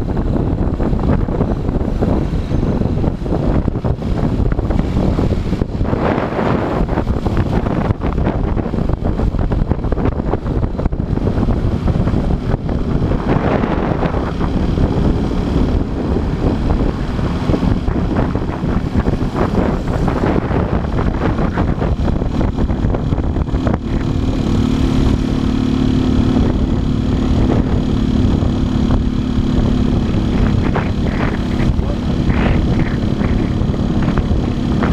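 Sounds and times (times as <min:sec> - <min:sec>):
motorcycle engine running: 0:00.0 - 0:34.9
wind buffeting microphone: 0:00.0 - 0:34.9.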